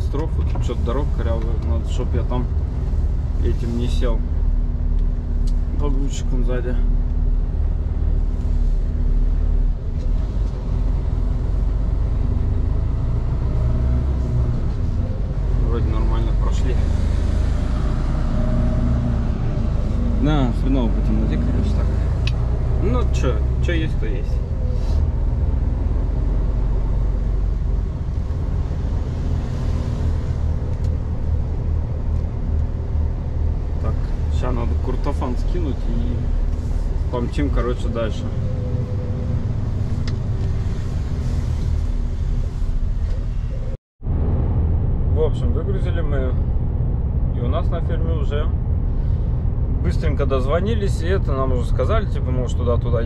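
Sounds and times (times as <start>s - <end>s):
diesel truck engine rumbling: 0.0s - 53.0s.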